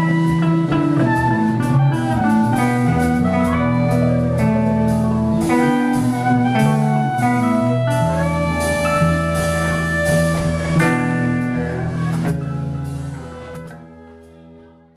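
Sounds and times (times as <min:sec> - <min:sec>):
bass guitar: 0:00.0 - 0:14.9
drums: 0:00.0 - 0:14.9
electric guitar: 0:00.0 - 0:14.9
keyboard: 0:00.0 - 0:14.9.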